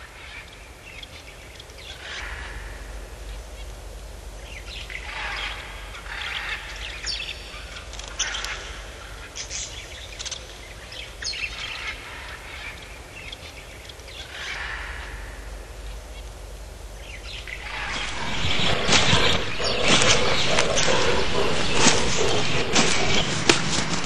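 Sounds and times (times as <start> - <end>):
bird-like chirps: 0.0 - 24.0
steady low hum: 0.0 - 24.0.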